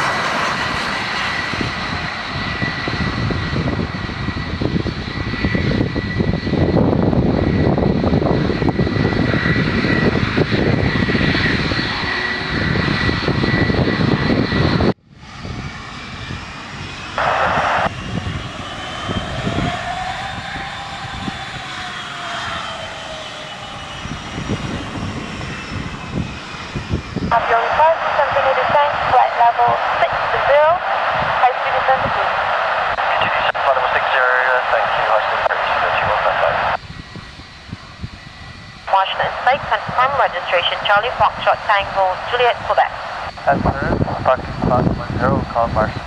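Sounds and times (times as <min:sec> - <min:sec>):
high engine whine: 0:00.0 - 0:46.0
jet engines roaring: 0:00.0 - 0:46.0.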